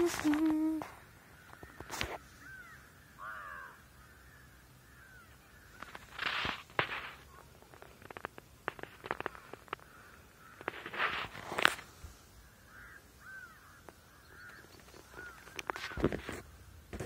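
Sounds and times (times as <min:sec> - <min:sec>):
birds calling: 0:00.0 - 0:16.6.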